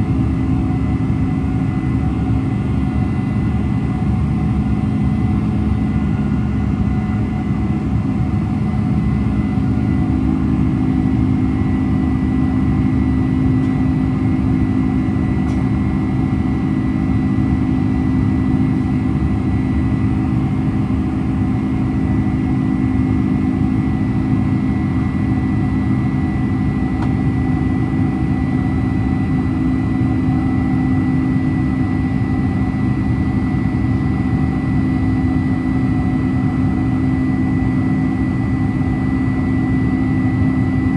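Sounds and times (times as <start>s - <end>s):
airplane cabin engine drone: 0.0s - 40.9s.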